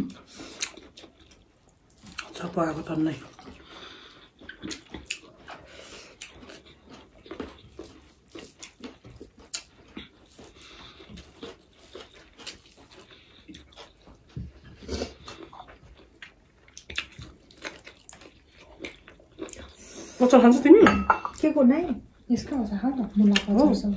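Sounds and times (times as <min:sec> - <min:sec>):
chewing: 0:00.0 - 0:20.2, 0:22.2 - 0:23.9.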